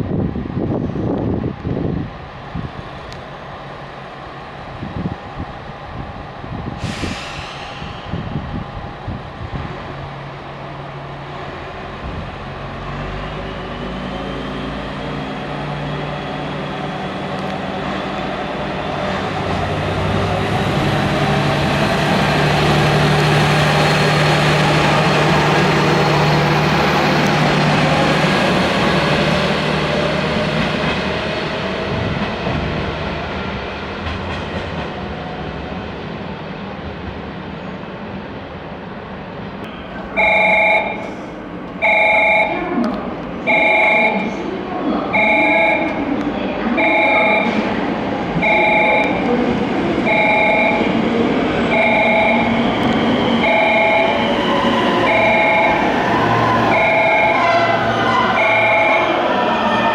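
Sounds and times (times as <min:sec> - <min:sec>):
train running past: 0:00.0 - 0:59.9.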